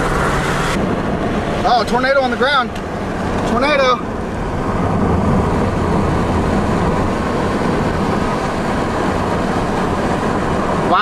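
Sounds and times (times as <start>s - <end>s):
car road noise: 0.0s - 11.0s.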